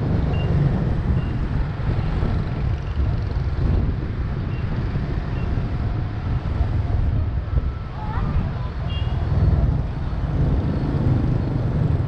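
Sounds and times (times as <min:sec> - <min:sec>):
motorbike road noise: 0:00.0 - 0:12.0
wind noise on microphone: 0:00.0 - 0:12.0.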